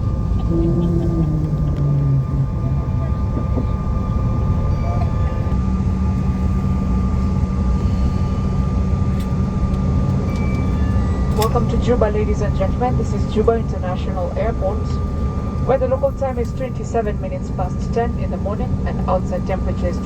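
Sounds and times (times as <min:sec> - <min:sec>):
airliner engine and rolling rumble: 0:00.0 - 0:20.0
steady low hum: 0:00.0 - 0:20.0.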